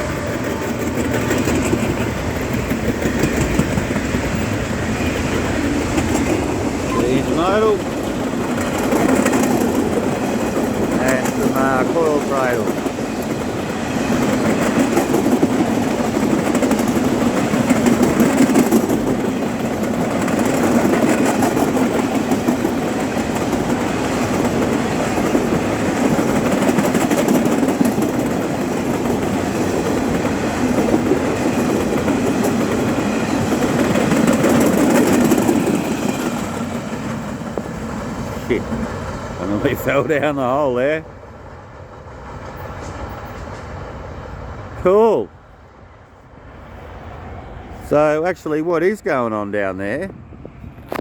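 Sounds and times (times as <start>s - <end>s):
train wheels on rails: 0.0s - 51.0s.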